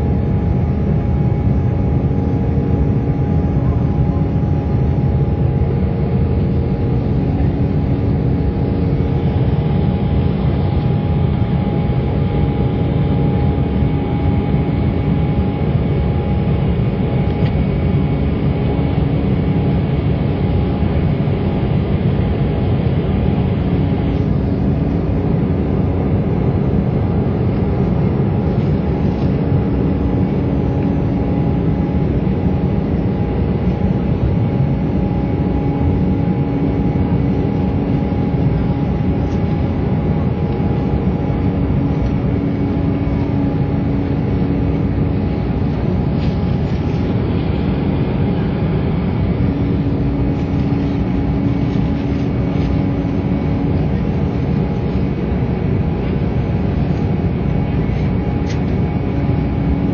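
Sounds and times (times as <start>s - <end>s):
constant hum tones: 0.0s - 59.9s
jet cabin rumble: 0.0s - 59.9s.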